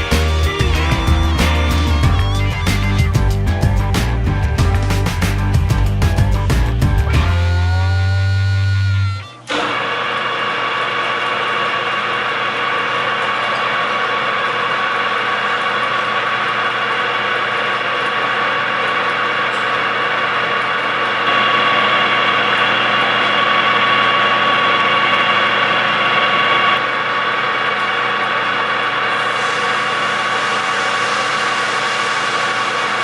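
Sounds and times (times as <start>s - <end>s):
lathe running with whine: 0.0s - 3.7s, 7.1s - 33.0s.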